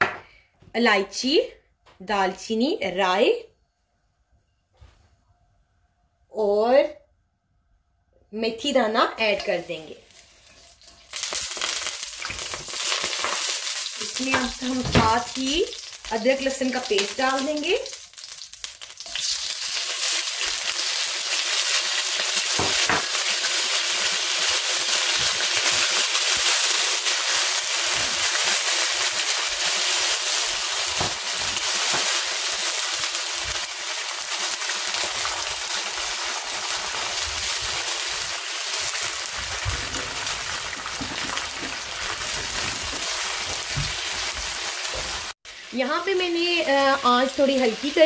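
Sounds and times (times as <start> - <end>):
paste sizzling in hot oil: 9.5 - 48.0.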